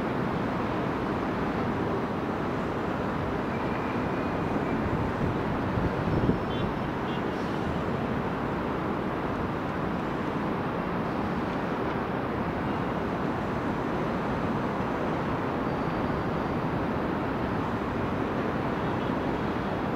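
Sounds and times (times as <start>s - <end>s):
diesel trucks and traffic rumble: 0.0s - 19.9s.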